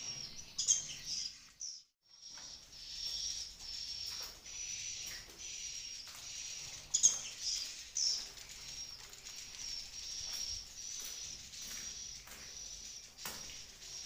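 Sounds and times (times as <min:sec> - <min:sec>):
swiftlet twittering chirps: 0:00.0 - 0:14.0.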